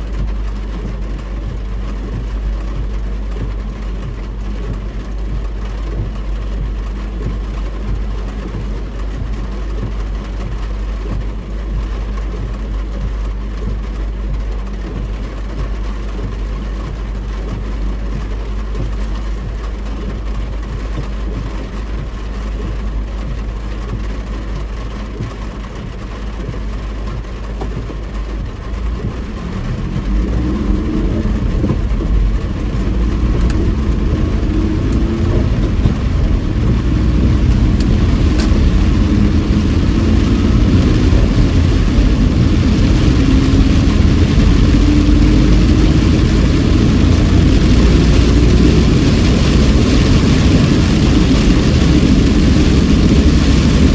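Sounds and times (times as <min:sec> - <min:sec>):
car engine and road rumble: 0:00.0 - 0:53.9
tyres hissing on wet road: 0:00.0 - 0:53.9.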